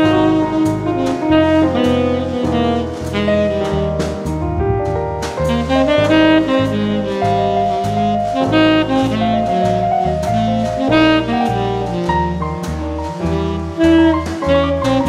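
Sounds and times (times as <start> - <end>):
bass line: 0.0 - 15.0
drums: 0.0 - 15.0
saxophone melody: 0.0 - 15.0.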